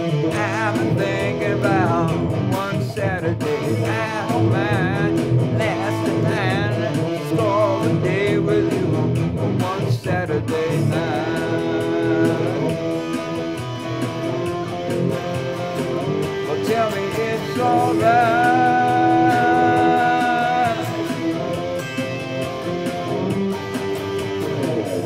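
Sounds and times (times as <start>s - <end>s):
electric guitar playing: 0.0s - 25.0s.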